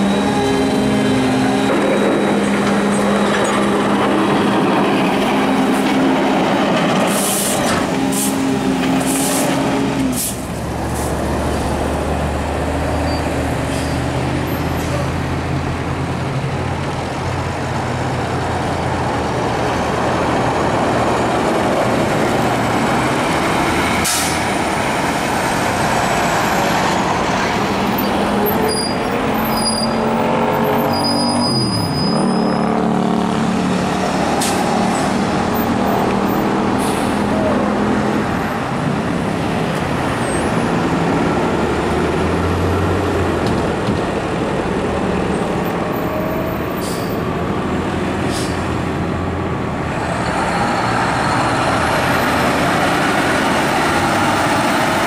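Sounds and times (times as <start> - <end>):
garbage truck engines: 0.0 - 55.0.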